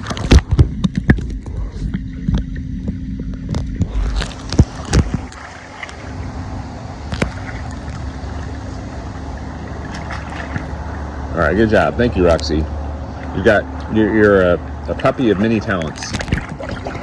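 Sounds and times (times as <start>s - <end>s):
water sloshing and gurgling: 0.0s - 17.0s.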